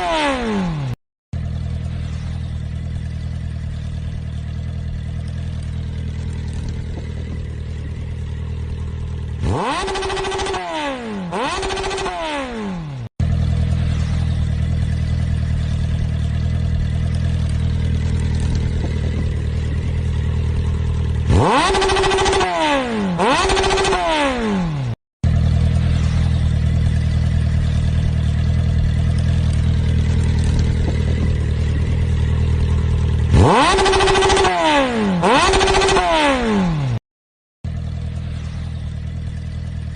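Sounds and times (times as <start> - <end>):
motorcycle engine idling and revving: 0.0 - 37.0, 37.6 - 39.9.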